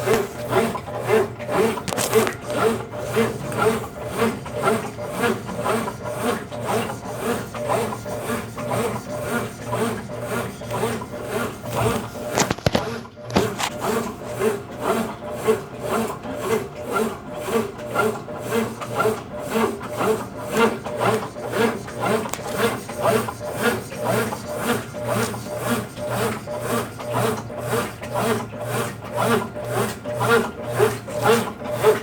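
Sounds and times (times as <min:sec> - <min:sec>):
motor hum: 0:00.0 - 0:32.0
washing machine churning water: 0:00.0 - 0:32.0.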